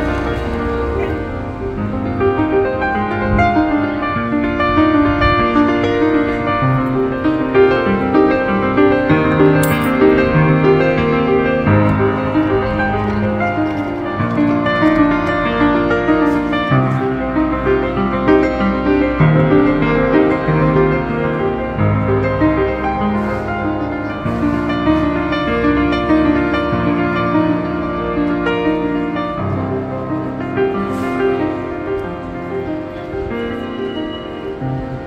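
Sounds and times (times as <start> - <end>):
piano music: 0.0 - 35.0.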